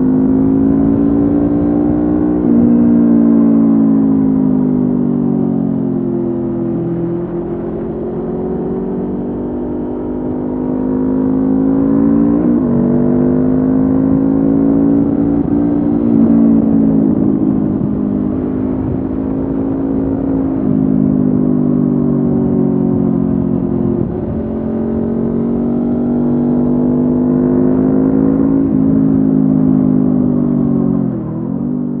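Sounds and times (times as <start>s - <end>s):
motorcycle engine running: 6.2s - 32.0s.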